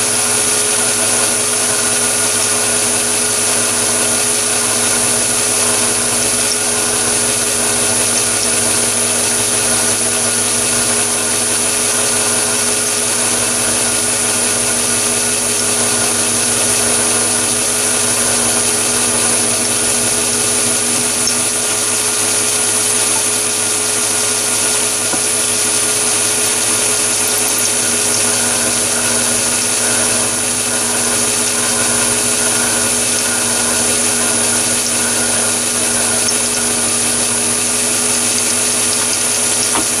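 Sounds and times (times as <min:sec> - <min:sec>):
drill bit high thin tone: 0:00.0 - 0:40.0
lathe motor and gear whine: 0:00.0 - 0:40.0.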